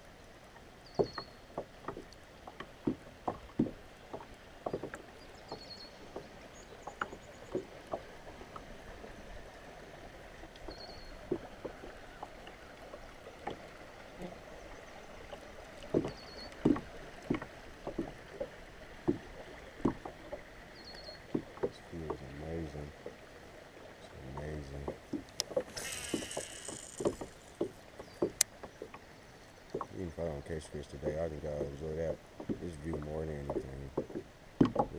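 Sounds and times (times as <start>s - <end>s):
water lapping against kayak hull: 0.0s - 34.9s.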